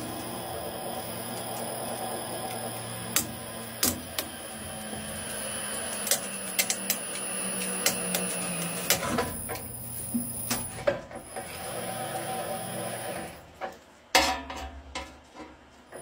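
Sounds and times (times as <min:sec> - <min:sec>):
shredder humming: 0:00.0 - 0:13.5.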